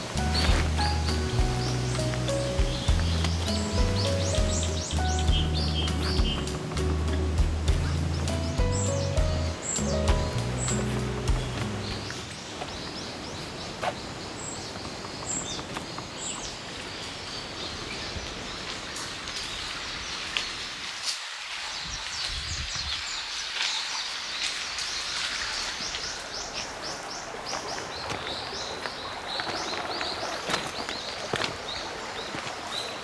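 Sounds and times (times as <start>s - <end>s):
birds calling: 0.0s - 33.0s
steady background hiss: 0.0s - 33.0s.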